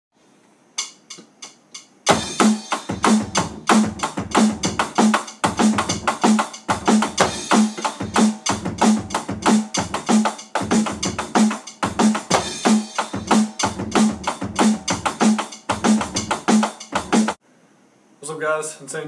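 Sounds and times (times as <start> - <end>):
electronic drum beat: 0.8 - 17.4.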